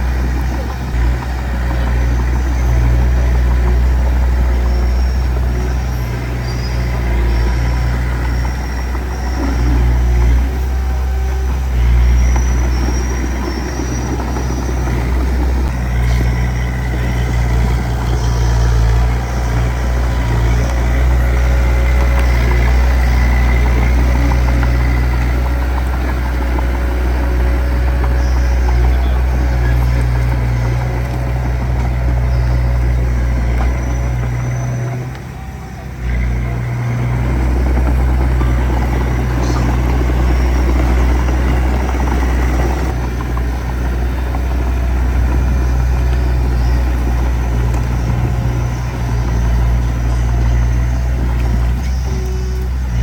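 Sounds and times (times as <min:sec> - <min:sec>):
heavy diesel engine droning: 0:00.0 - 0:53.0.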